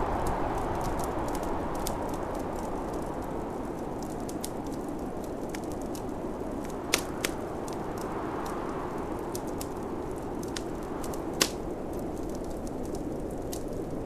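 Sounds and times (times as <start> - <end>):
snowstorm wind blowing: 0.0 - 14.0
wood fire crackling: 0.0 - 14.0.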